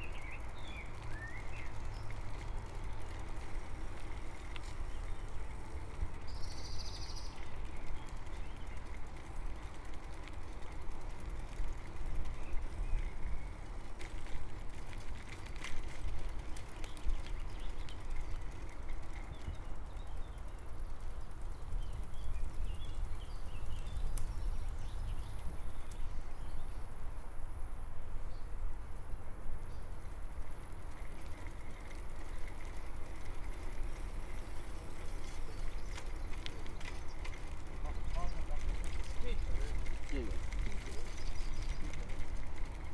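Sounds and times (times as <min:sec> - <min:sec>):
bicycle wind and rolling rumble: 0:00.0 - 0:42.9.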